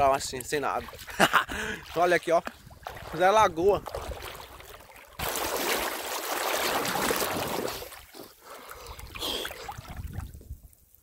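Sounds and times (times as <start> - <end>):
river water splashing: 0.0 - 10.3.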